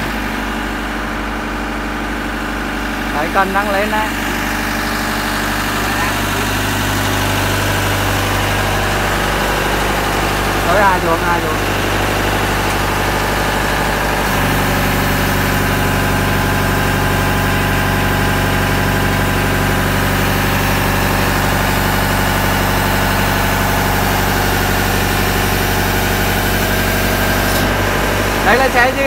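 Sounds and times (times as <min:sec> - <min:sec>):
boom lift engine running: 0:00.0 - 0:29.0.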